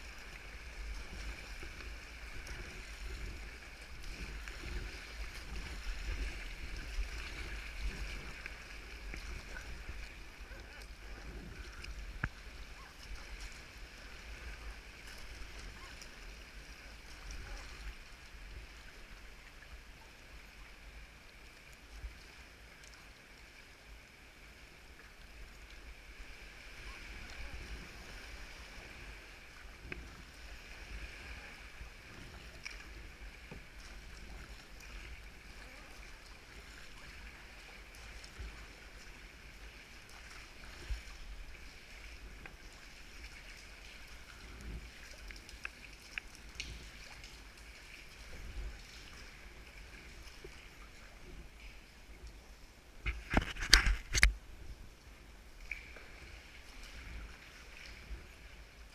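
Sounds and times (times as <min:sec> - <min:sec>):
water washing around kayak: 0:00.0 - 0:58.9.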